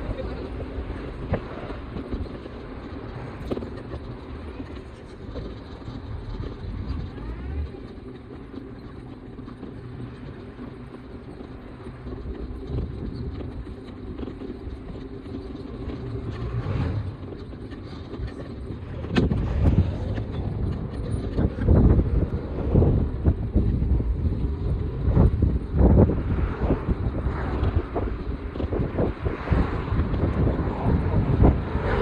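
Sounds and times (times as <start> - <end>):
street traffic rumble: 0.0 - 32.0
wind buffeting microphone: 0.0 - 32.0.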